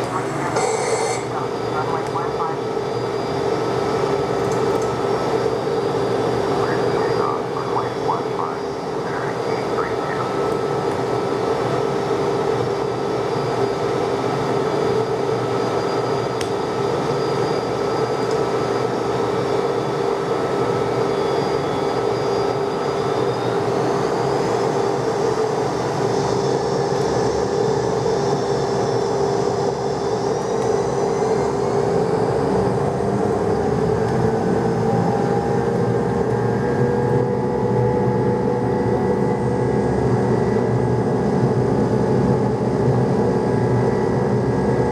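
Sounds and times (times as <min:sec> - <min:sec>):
jet engines droning: 0:00.0 - 0:44.9.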